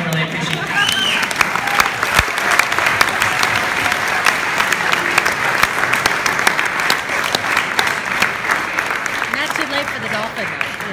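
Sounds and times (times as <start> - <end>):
audience applauding: 0.0 - 10.9
close hand claps: 0.0 - 10.9.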